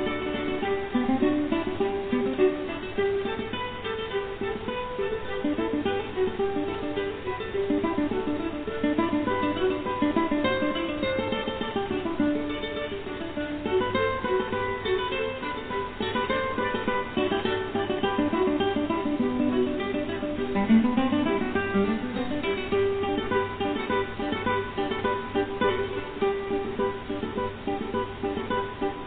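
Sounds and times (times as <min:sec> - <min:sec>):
plucked acoustic guitar: 0:00.0 - 0:29.0.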